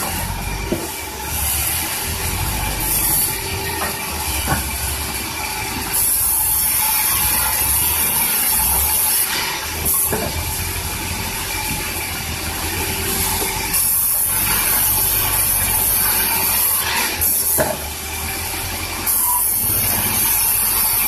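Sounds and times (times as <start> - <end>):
band saw cutting wood: 0.0 - 21.0.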